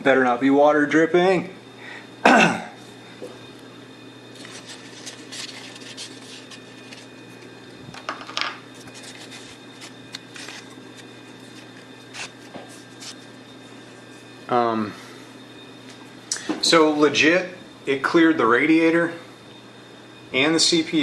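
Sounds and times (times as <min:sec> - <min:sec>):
computer pump and fans humming: 0:00.0 - 0:21.0.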